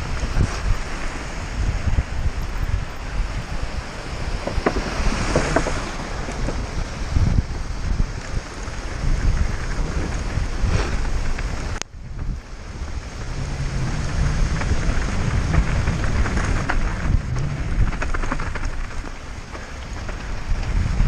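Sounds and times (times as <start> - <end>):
bike tyres and frame rattling: 0.0 - 21.0
wind buffeting microphone: 0.0 - 21.0.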